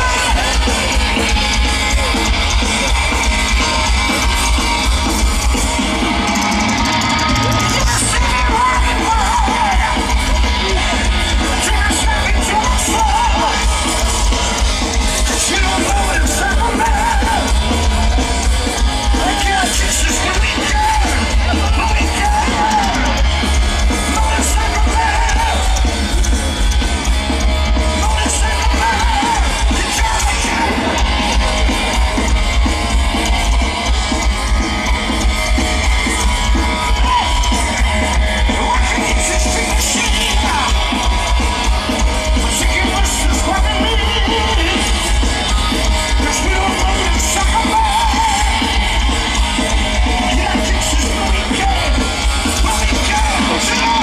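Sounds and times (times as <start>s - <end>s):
distorted electric guitars: 0.0s - 54.0s
drums: 0.0s - 54.0s.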